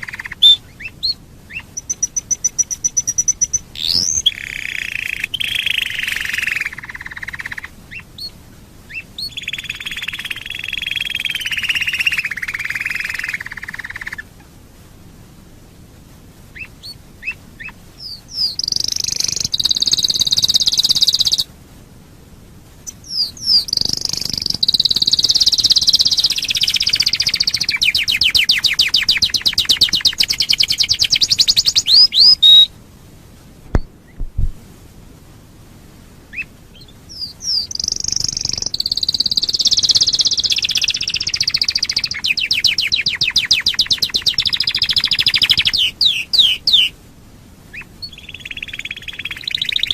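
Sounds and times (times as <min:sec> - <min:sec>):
canary singing rolling trills: 0:00.0 - 0:14.5, 0:16.5 - 0:21.5, 0:22.8 - 0:32.7, 0:36.3 - 0:47.0, 0:47.6 - 0:49.9.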